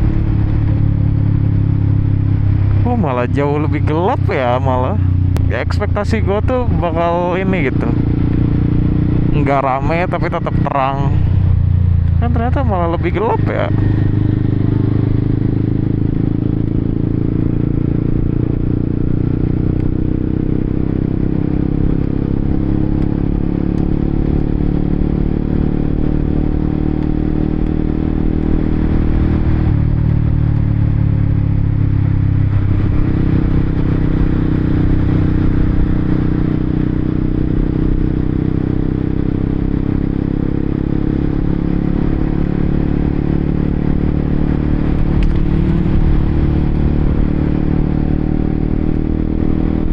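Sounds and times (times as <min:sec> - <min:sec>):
motorcycle engine running: 0:00.0 - 0:49.9
wind and road noise: 0:00.0 - 0:49.9.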